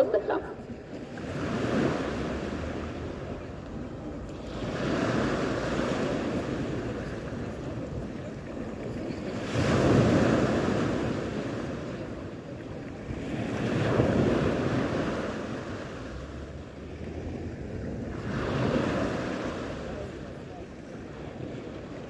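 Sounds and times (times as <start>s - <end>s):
sea waves breaking on shore: 0.0s - 22.0s.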